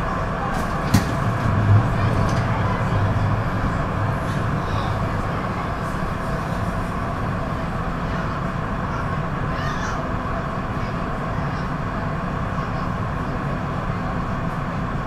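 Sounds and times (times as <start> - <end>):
tram drive hum with whine: 0.0 - 15.0.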